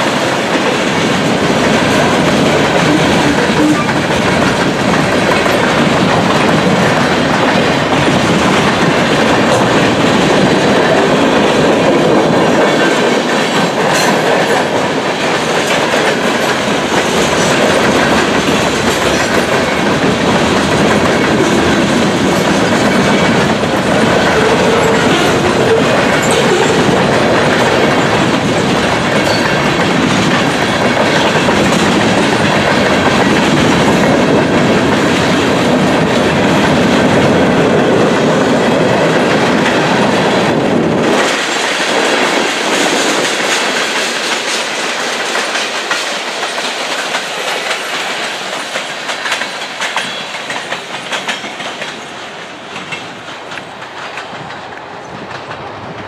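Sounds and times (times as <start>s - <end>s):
freight train rumble: 0.0s - 56.0s
train wheels clattering over rail joints: 0.0s - 56.0s.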